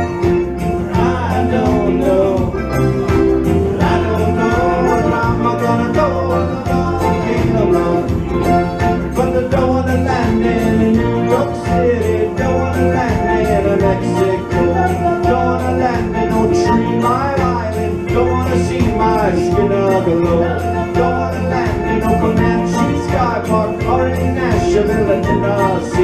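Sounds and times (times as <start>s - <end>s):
band music with steady beat: 0.0s - 26.0s.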